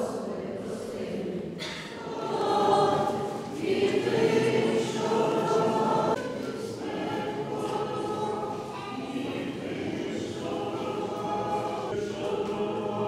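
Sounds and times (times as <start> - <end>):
choir singing held chords: 0.0 - 13.0.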